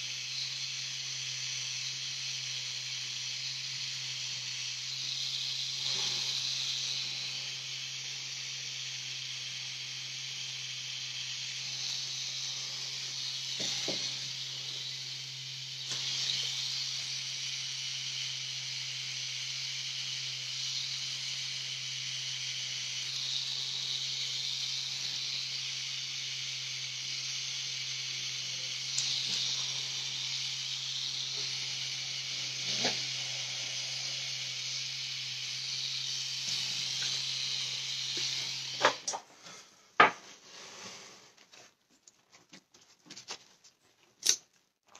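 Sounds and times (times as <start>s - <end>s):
tattoo machine humming: 0.0s - 40.2s.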